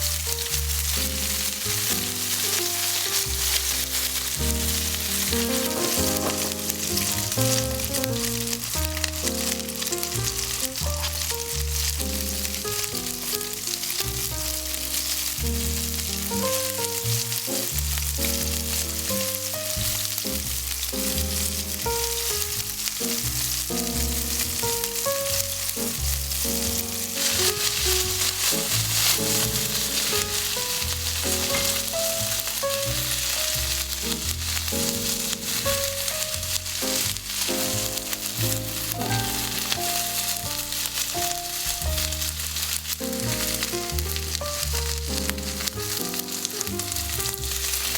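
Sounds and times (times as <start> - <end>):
food sizzling in a pan: 0.0 - 47.9
soft background music: 0.0 - 47.9.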